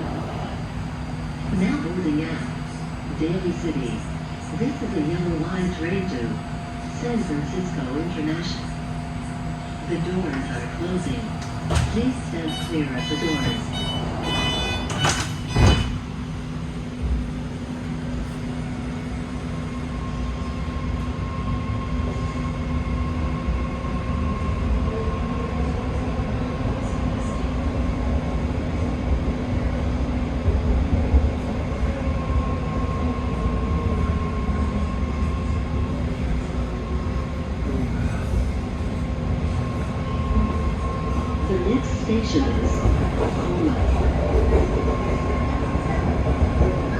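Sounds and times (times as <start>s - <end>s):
train rumbling on tracks: 0.0s - 46.9s.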